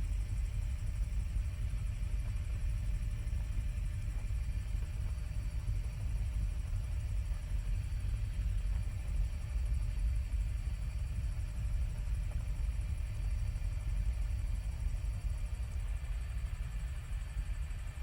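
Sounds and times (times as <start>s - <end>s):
helicopter engine and rotor: 0.0s - 18.0s.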